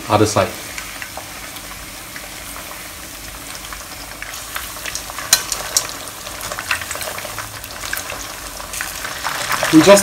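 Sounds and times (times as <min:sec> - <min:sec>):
ribs deep-frying in oil: 0:00.0 - 0:10.0.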